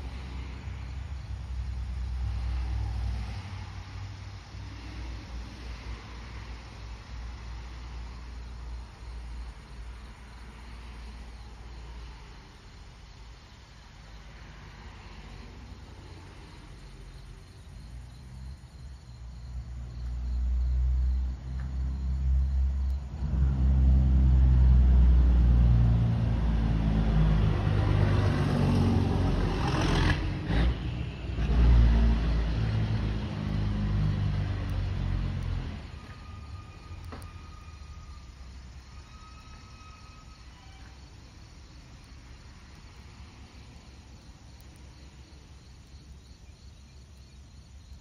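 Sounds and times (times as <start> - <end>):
motor vehicle engine rumble: 0.0 - 48.0.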